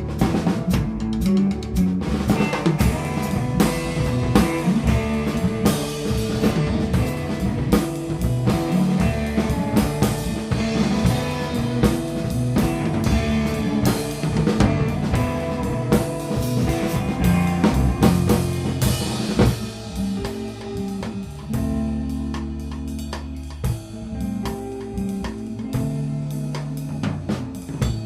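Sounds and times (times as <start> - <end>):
bass guitar: 0.0 - 28.0
drum kit: 0.0 - 28.0
electric guitar: 0.0 - 28.0.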